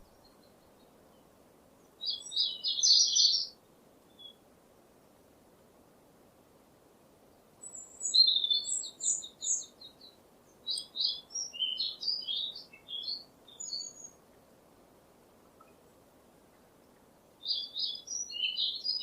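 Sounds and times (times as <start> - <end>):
songbird singing: 0.0 - 4.5, 7.2 - 19.0
faint steady hiss: 0.0 - 19.0.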